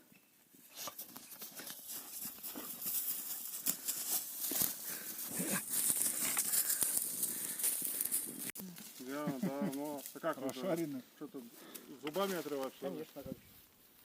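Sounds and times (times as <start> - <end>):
footsteps on a trail: 0.6 - 14.0.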